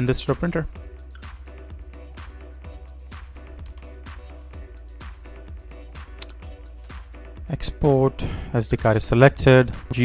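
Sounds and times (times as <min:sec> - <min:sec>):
background music with steady beat: 0:00.0 - 0:10.0
low bass: 0:00.0 - 0:10.0.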